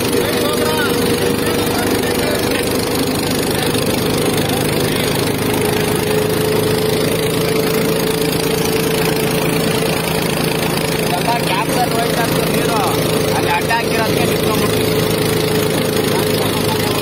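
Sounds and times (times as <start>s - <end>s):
tractor diesel engine running: 0.0s - 17.0s
wheels splashing through water: 0.0s - 17.0s.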